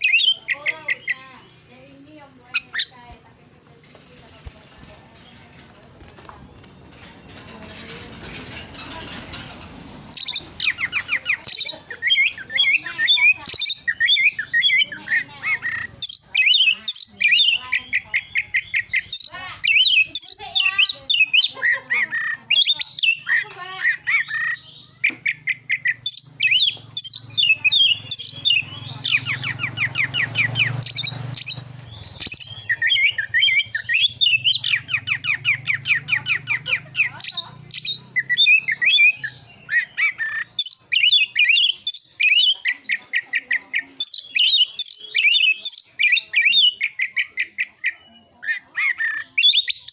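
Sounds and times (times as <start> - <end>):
bird singing whistles and chatter: 0.0 - 49.9.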